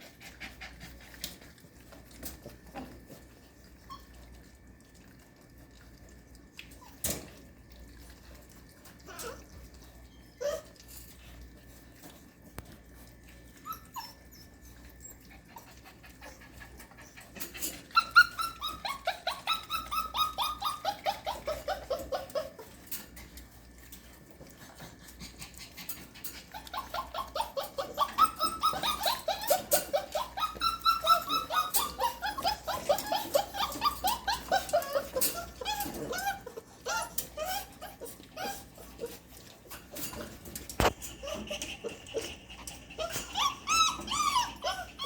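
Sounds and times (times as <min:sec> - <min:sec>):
puppy whining: 0:00.0 - 0:45.0.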